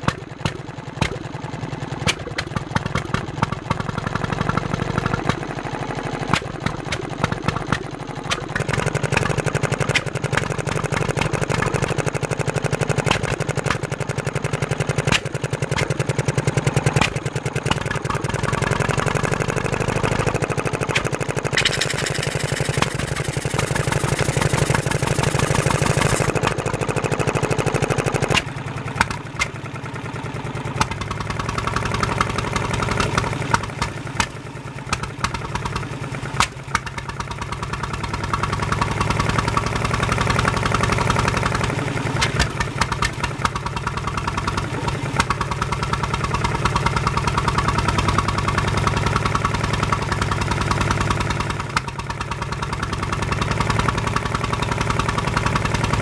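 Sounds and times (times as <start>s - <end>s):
stationary engine running: 0.0s - 56.0s.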